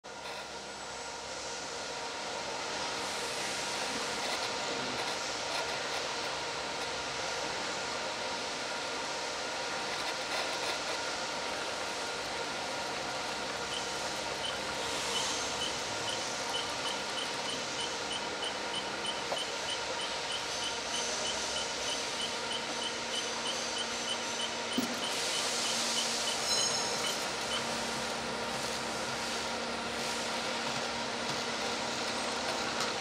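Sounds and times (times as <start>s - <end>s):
robot drive whine and hum: 0.1s - 33.0s.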